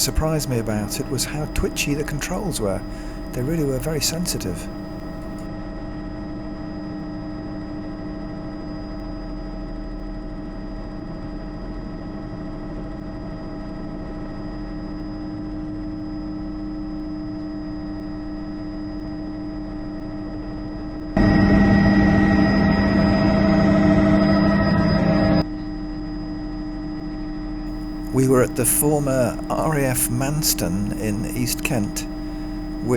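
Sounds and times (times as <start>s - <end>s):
helicopter turbine and rotor whine: 0.0s - 32.9s.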